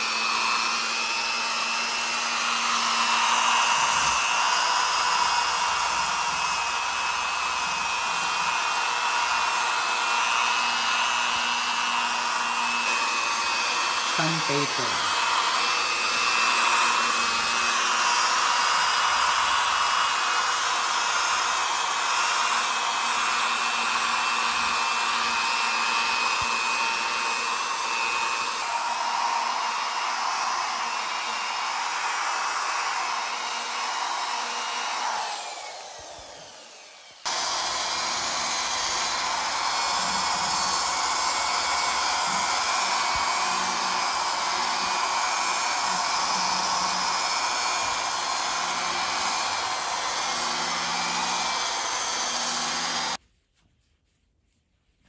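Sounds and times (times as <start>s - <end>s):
electric sander whirring: 0.0s - 53.2s.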